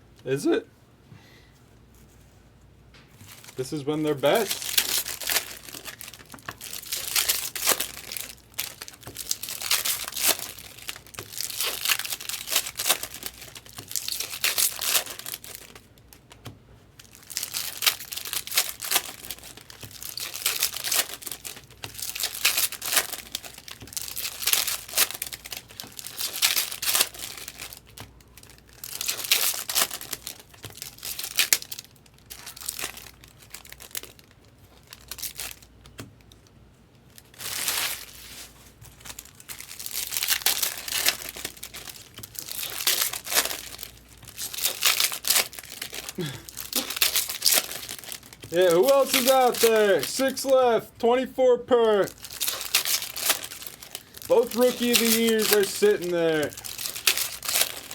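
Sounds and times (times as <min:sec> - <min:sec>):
wrappers tearing and crinkling: 0:03.2 - 0:16.4, 0:17.0 - 0:36.3, 0:37.1 - 0:50.8, 0:51.8 - 0:57.9.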